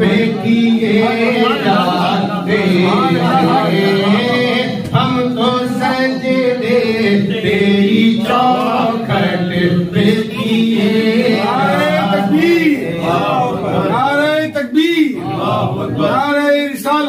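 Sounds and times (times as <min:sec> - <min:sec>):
man singing into a microphone: 0:00.0 - 0:15.2.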